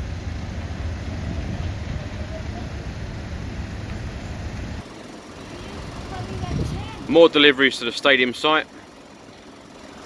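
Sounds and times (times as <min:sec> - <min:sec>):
lorry engine rumbling: 0:00.0 - 0:10.0.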